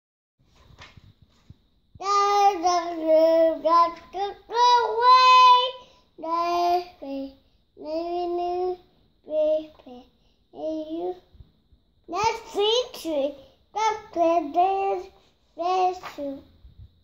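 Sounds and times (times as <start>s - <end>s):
child singing: 2.0s - 11.3s, 12.1s - 16.5s.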